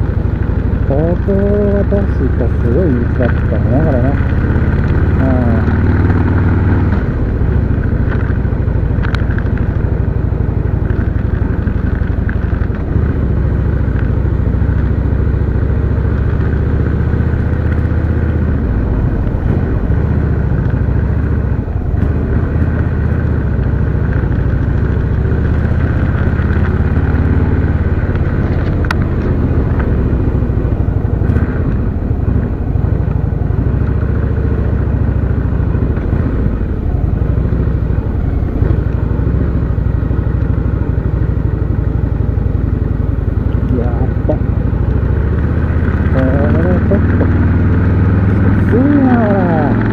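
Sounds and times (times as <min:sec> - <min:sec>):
motorcycle engine rumbling: 0:00.0 - 0:49.9.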